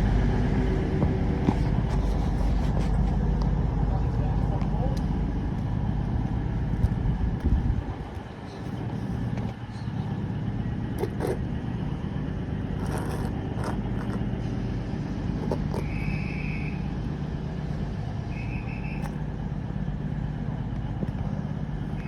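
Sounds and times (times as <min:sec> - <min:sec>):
diesel train engine humming: 0:00.0 - 0:22.0.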